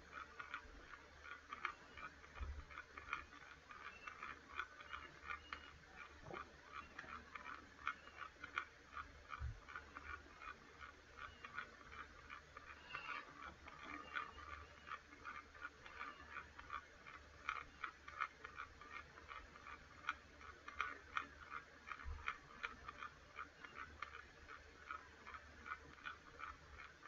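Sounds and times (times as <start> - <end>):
low steady hum: 0.0 - 27.0
rapid irregular clicking: 0.0 - 27.0.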